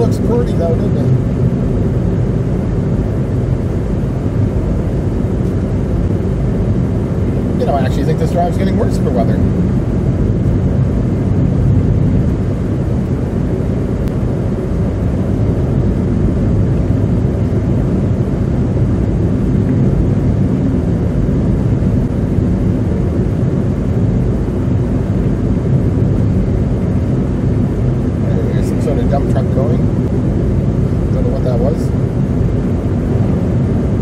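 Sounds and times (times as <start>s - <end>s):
car engine: 0.0s - 34.0s.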